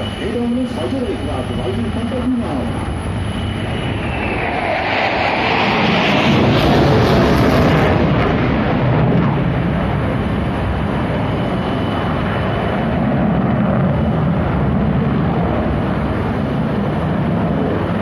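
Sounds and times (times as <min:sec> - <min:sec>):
fighter jet roar: 0:00.0 - 0:18.0.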